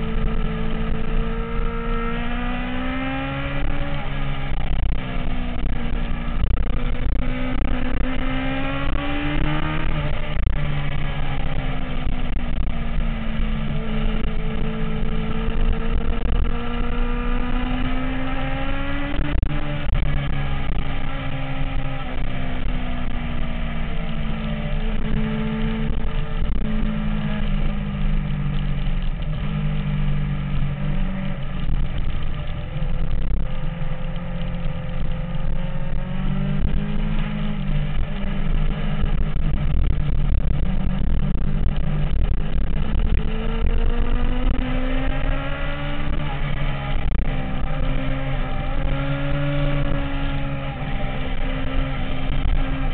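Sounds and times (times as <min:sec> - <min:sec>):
low rumbling noise: 0:00.0 - 0:52.9
motorcycle engine running: 0:00.0 - 0:52.9.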